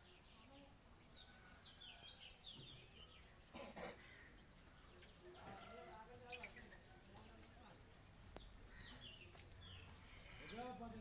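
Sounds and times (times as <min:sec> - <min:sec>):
bird chirps: 0:00.0 - 0:10.7
low background noise: 0:00.0 - 0:11.0.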